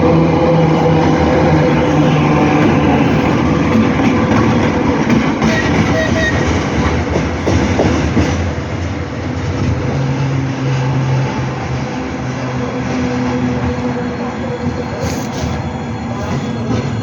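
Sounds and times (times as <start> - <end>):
diesel locomotive engine hum: 0.0 - 17.0
wheels clanking on rails: 0.4 - 17.0.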